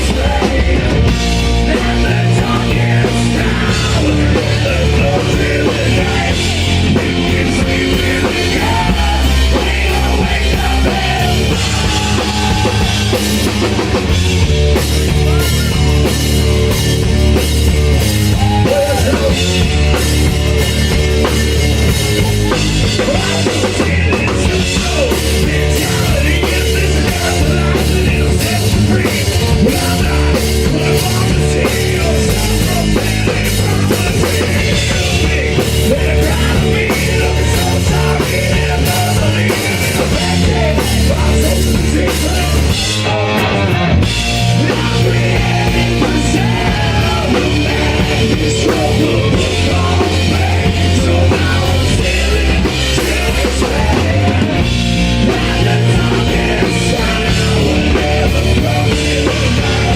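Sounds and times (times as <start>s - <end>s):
driving drum kit: 0.0s - 59.9s
instrumental hard rock music: 0.0s - 59.9s.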